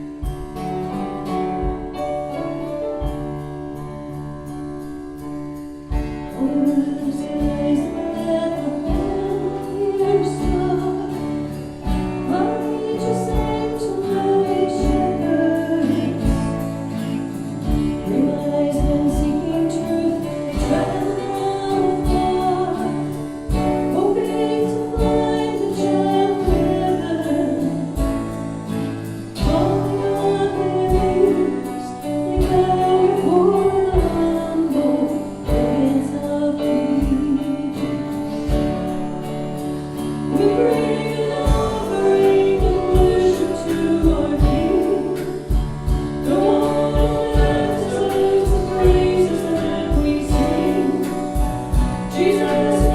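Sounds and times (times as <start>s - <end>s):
person singing worship song: 6.4s - 28.1s, 29.4s - 38.6s, 39.9s - 52.9s.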